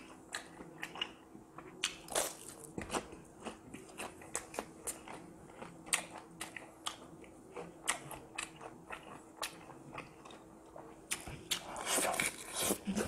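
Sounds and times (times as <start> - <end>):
chewing crunchy fried food: 0.0 - 13.0.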